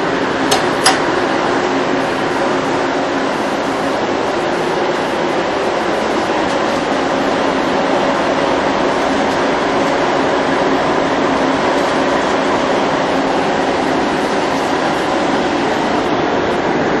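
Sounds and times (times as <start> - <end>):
dryer blower whirring: 0.0 - 17.0
faint hum: 0.0 - 17.0.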